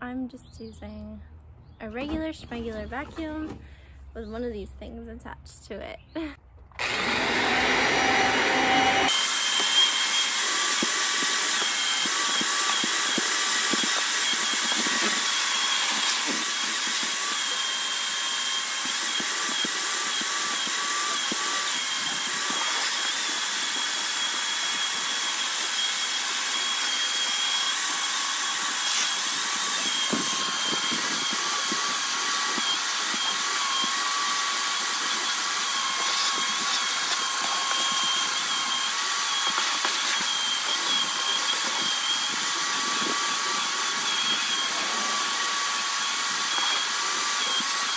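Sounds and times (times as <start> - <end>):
vacuum cleaner whining: 6.7 - 47.9.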